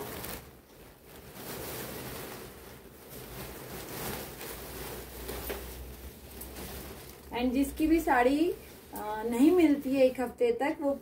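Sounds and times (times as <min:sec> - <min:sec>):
silk fabric rustling: 0:00.0 - 0:11.0.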